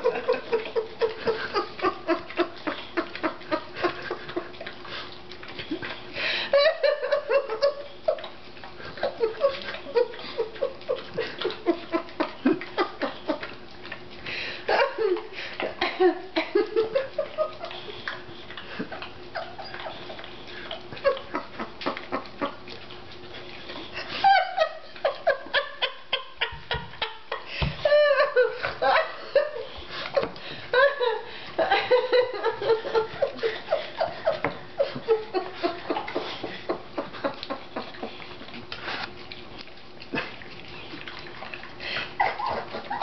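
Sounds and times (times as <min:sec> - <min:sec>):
dog licking and smacking: 0:00.0 - 0:27.4, 0:31.3 - 0:43.0.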